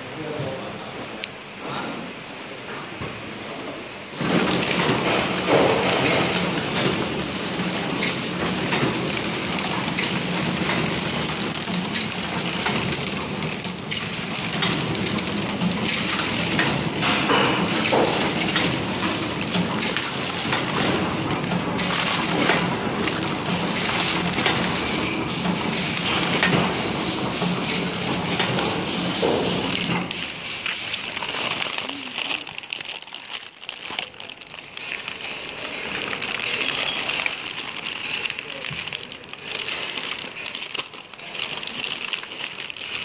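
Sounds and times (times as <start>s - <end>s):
packaging machine humming: 4.1s - 43.0s
machine clattering clicks: 4.2s - 32.4s, 34.7s - 43.0s.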